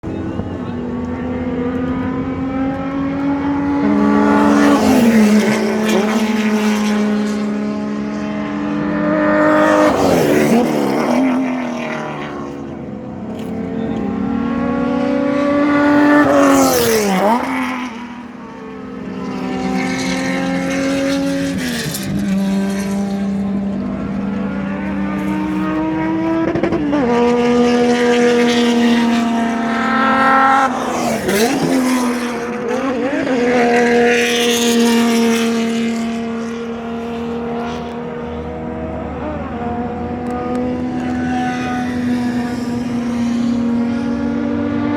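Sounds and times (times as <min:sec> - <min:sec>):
race cars passing at full throttle: 0:00.0 - 0:44.9.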